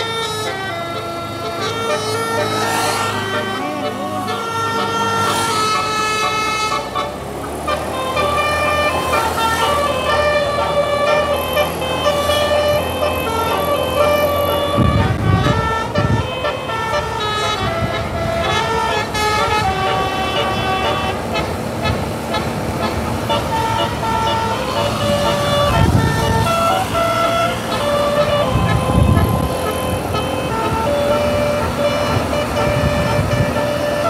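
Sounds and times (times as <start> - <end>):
multi-tone bus horn playing tune: 0.0 - 34.0
low rumbles: 3.1 - 34.0.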